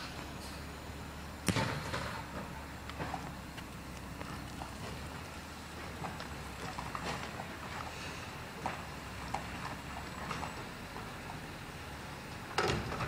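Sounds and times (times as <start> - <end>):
distant garbage truck running: 0.0 - 13.0
handheld camera rumble: 1.5 - 13.0.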